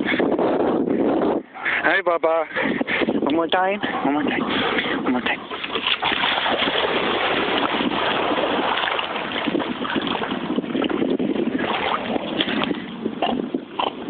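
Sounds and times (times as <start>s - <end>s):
water splashing and churning: 0.0s - 14.0s
wind noise: 0.0s - 14.0s
rush of water: 1.6s - 14.0s.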